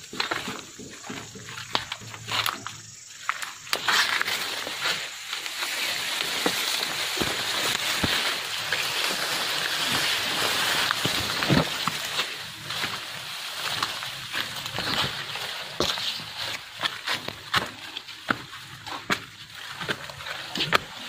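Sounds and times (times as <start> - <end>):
vegetation rustling against camera: 0.0 - 21.0
stems snapping underfoot: 1.6 - 21.0.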